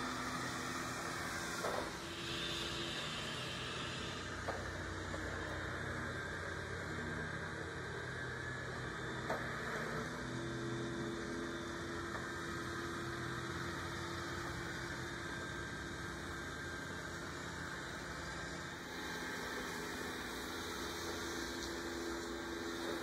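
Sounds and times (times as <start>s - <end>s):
robot vacuum motor hum: 0.0s - 23.0s.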